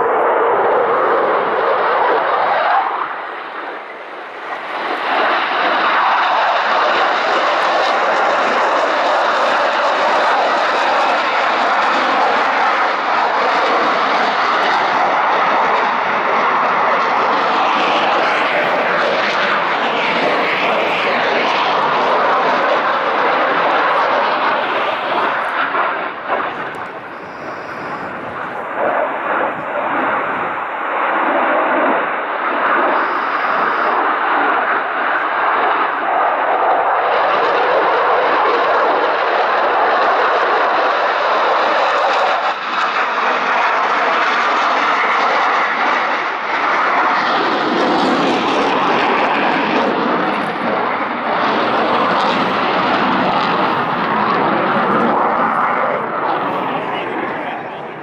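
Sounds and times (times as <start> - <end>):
jet engines roaring overhead: 0.0 - 58.0.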